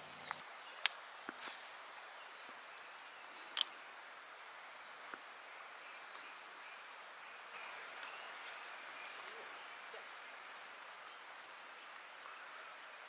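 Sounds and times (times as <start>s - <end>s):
faint hiss of stream: 0.0s - 13.0s.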